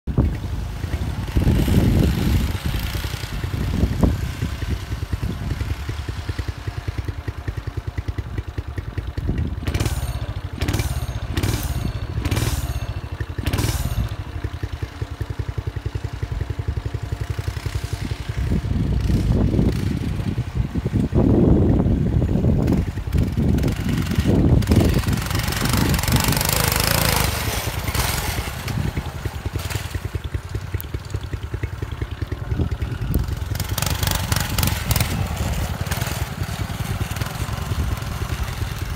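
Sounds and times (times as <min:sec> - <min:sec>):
minibike engine running: 0:00.1 - 0:38.9.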